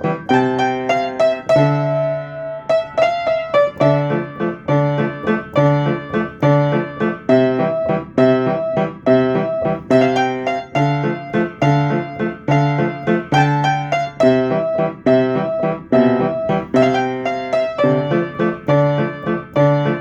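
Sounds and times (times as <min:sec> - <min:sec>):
piano playing repeated riff: 0:00.0 - 0:20.0.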